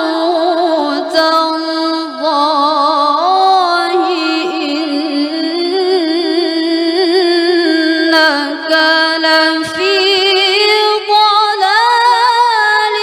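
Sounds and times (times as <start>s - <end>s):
woman reciting melodically: 0.0s - 13.0s.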